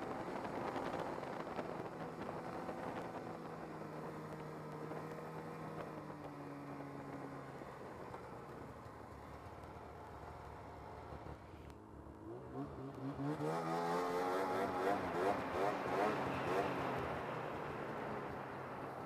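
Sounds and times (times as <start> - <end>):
snowmobile track noise: 0.0 - 19.0.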